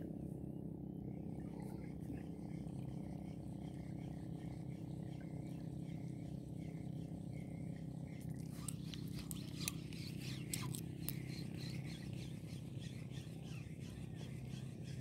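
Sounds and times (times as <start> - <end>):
fishing reel gears whirring: 1.5 - 15.0.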